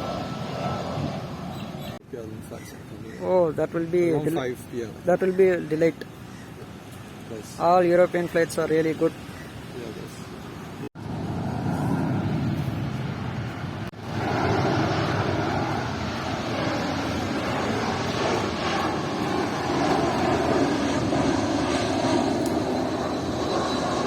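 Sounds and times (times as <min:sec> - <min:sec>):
airliner flying overhead: 0:00.0 - 0:07.6, 0:08.4 - 0:24.0.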